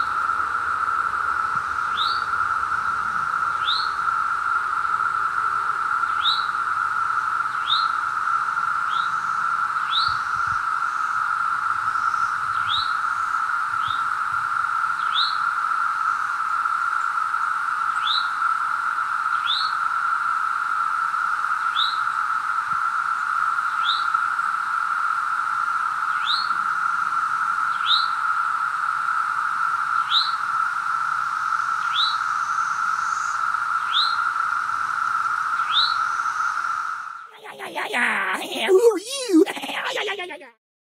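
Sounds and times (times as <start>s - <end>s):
cicadas droning: 0.0s - 38.8s.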